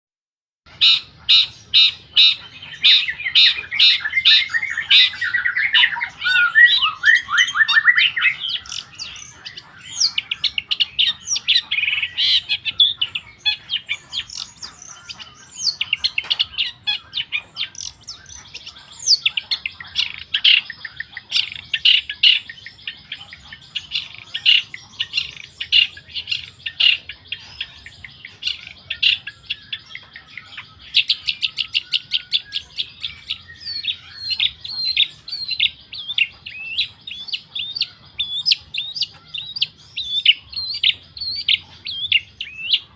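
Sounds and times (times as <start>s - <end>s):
bird singing chirps and trills: 0.7s - 42.9s.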